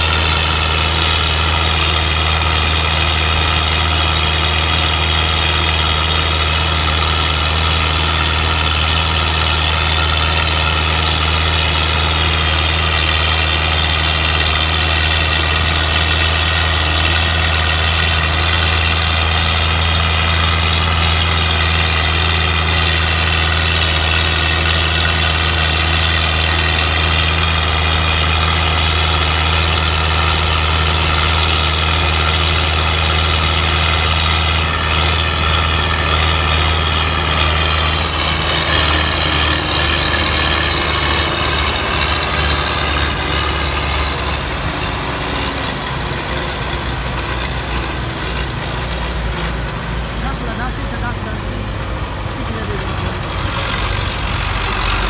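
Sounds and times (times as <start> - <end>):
tractor diesel engine working hard: 0.0 - 55.0.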